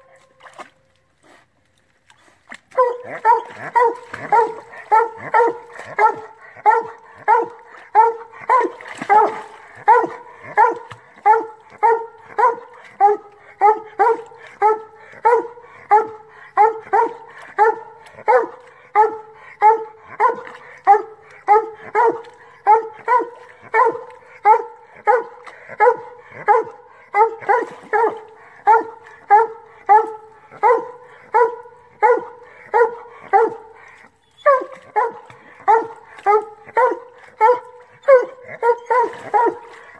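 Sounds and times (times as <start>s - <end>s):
dog barking: 2.8s - 33.8s, 34.5s - 39.8s.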